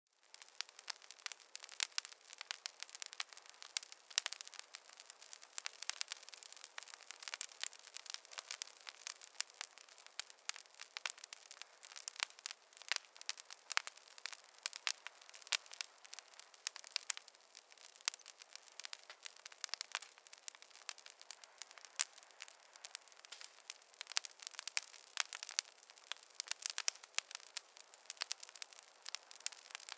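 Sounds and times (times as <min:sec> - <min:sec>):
campfire crackling: 0:00.2 - 0:29.9
faint hiss: 0:00.2 - 0:29.9.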